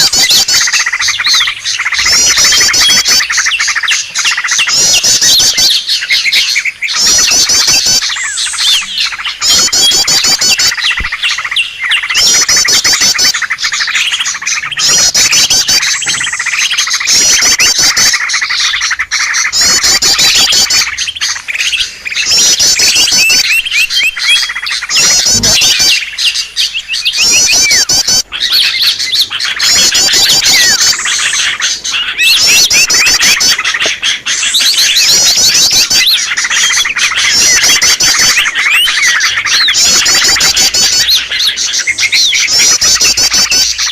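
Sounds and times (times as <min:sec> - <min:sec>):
rapid high bird trill: 0:00.0 - 0:43.9
small birds chirping: 0:00.0 - 0:43.9.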